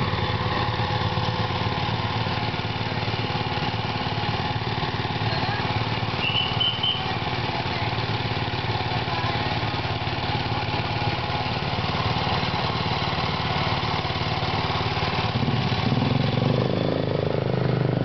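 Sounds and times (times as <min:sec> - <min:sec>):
small gasoline engine running: 0:00.0 - 0:18.0.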